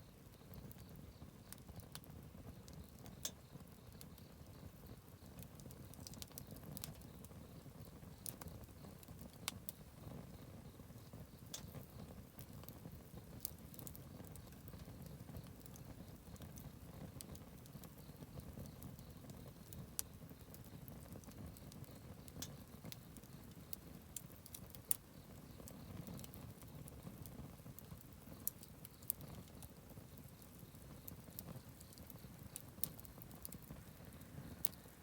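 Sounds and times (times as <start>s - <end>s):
burning wood crackling and popping: 0.0s - 35.0s
campfire flames rumbling: 0.1s - 35.0s.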